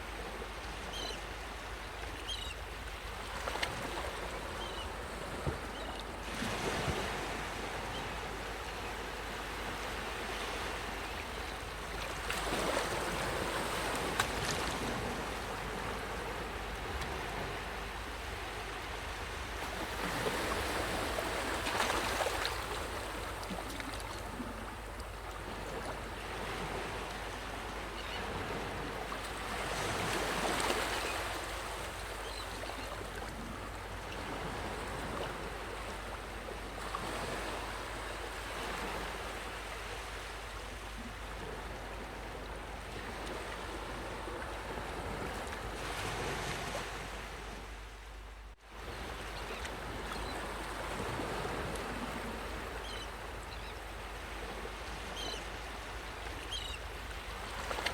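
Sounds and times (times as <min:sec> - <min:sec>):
sea waves breaking on beach: 0:03.2 - 0:48.0, 0:48.8 - 0:57.9.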